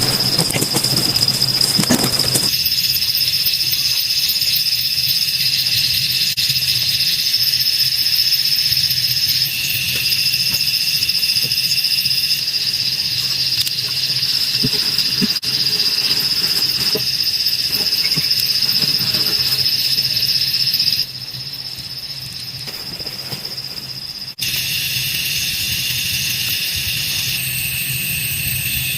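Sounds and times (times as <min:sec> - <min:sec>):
insects shrilling: 0:00.0 - 0:28.9.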